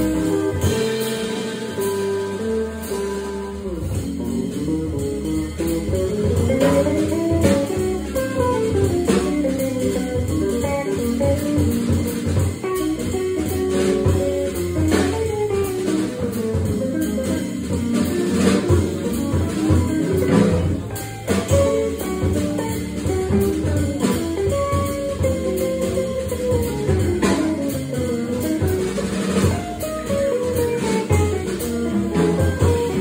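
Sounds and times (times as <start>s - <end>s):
drums and cymbals: 0.0s - 33.0s
organ bass: 0.0s - 33.0s.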